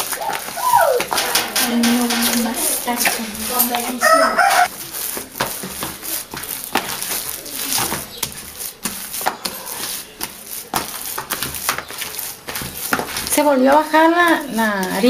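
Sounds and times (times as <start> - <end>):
hands kneading sticky dough: 0.0 - 15.0.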